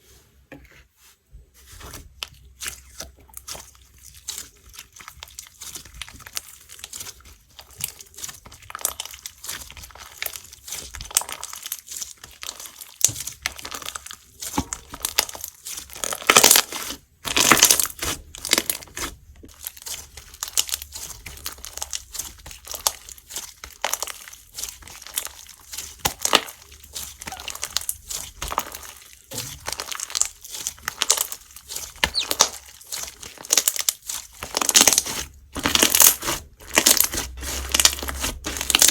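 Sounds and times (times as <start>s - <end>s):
slime squishing and crackling: 1.6s - 38.9s.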